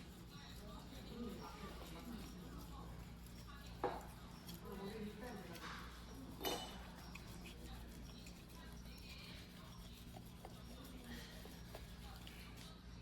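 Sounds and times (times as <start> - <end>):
knife scraping on whetstone: 0.0 - 12.3.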